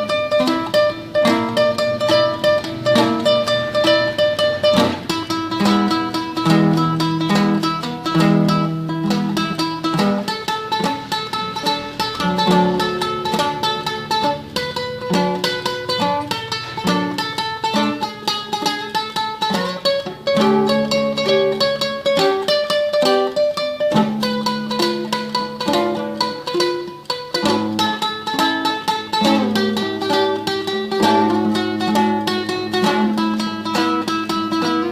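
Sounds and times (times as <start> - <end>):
classical guitar tremolo: 0.0 - 34.9.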